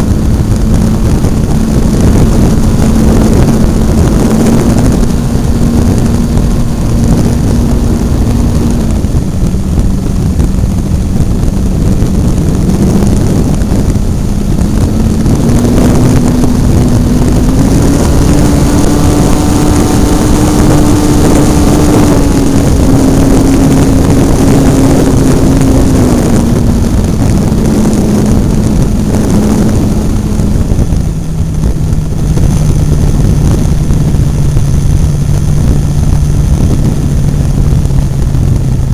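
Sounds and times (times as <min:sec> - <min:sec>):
model airplane engine and propeller: 0:00.0 - 0:38.9
wind rushing on microphone: 0:00.0 - 0:38.9.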